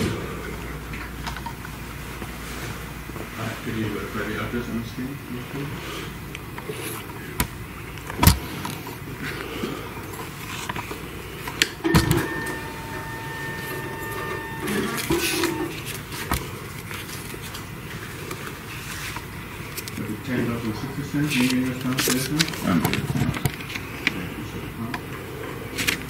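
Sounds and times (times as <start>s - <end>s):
steady electric whine: 0.0s - 26.0s.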